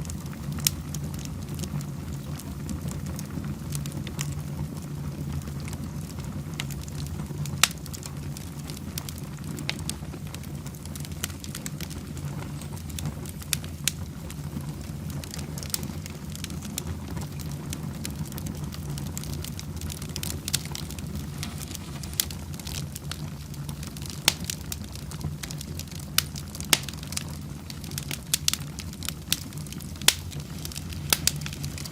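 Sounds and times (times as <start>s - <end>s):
fire burning: 0.0s - 31.9s
fire crackling and popping: 0.0s - 31.9s.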